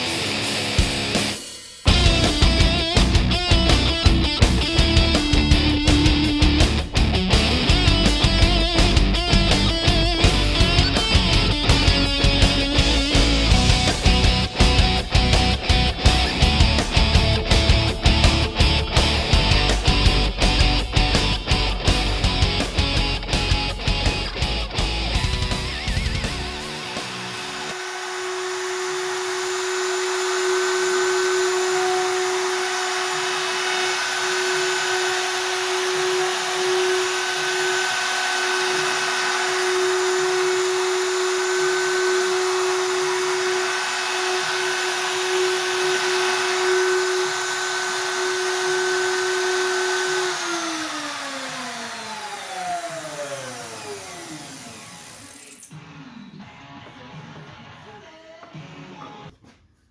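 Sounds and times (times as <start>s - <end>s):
router winding down: 0.0s - 56.5s
router cutting wood: 0.0s - 59.2s.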